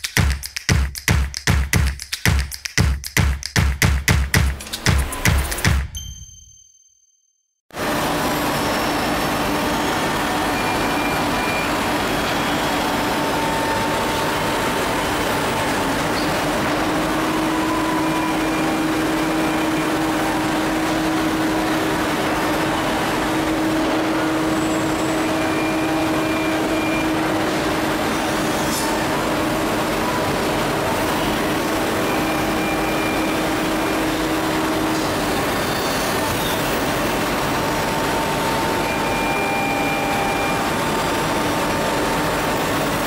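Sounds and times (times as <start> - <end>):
machine running with held tone: 7.8 - 43.0.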